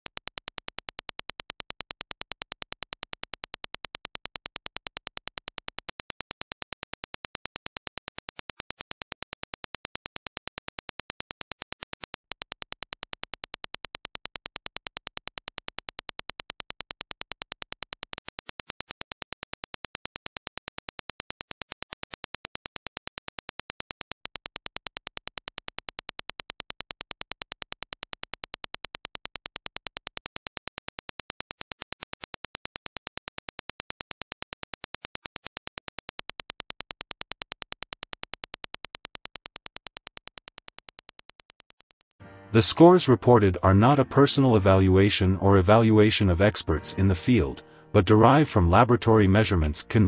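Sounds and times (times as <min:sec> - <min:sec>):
rapid sharp clicks: 0:00.0 - 0:42.2.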